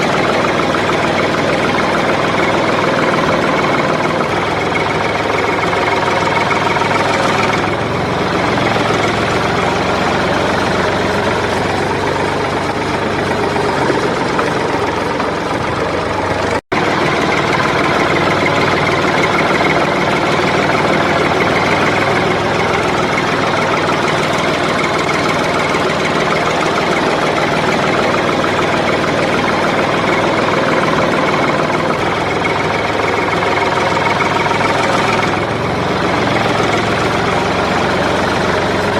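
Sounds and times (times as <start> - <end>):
small tractor motor running: 0.0 - 38.9.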